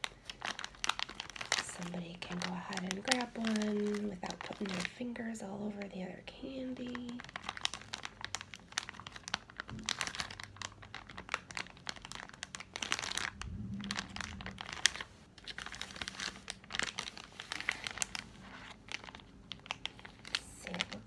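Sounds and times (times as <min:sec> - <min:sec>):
plastic candy wrapper crinkling: 0:00.0 - 0:21.0.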